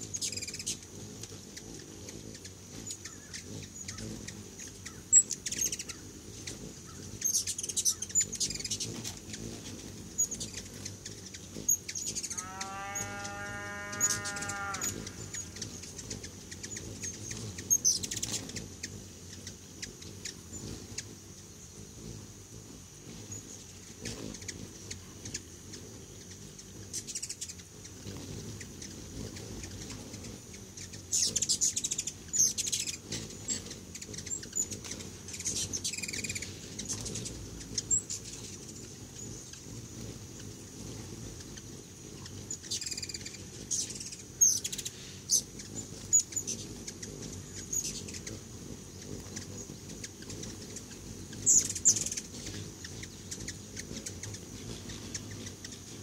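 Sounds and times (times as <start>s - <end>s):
hummingbirds squeaky chattering: 0.0s - 56.0s.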